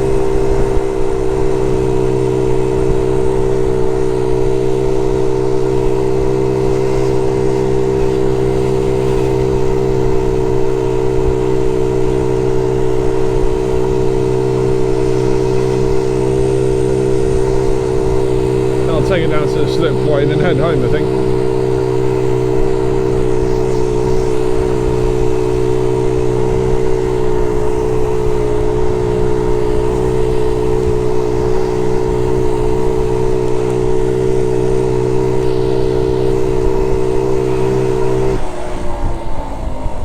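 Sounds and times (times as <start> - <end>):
small motorbike engine running: 0.0 - 40.0.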